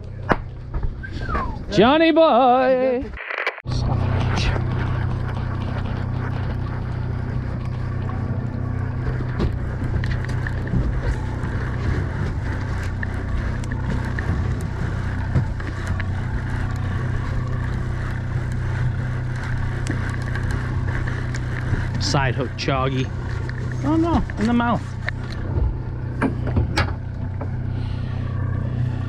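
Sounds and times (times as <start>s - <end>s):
boat engine humming: 0.0s - 3.0s, 3.7s - 29.0s.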